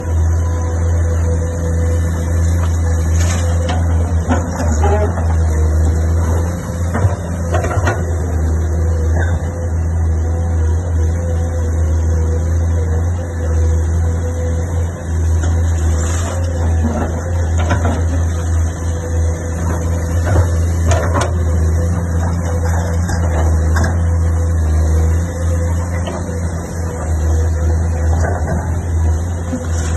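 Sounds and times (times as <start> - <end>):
heavy machinery engine humming: 0.0 - 29.9.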